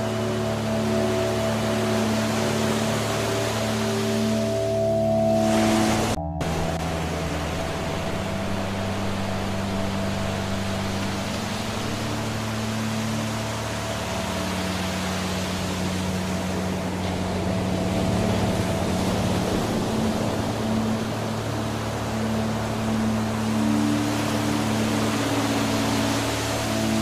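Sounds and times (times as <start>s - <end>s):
soft musical drone: 0.0s - 27.0s
waterfall rushing: 0.0s - 27.0s.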